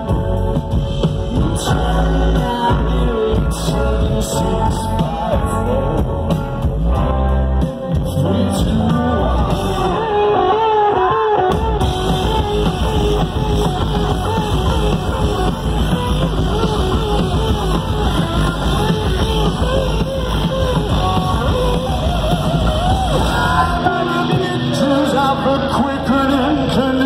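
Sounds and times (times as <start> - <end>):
live rock band playing: 0.0 - 27.0
person singing: 0.8 - 27.0.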